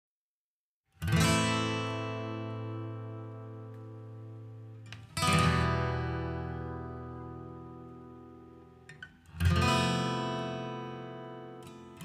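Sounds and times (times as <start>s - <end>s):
acoustic guitar chord strummed: 1.0s - 12.0s.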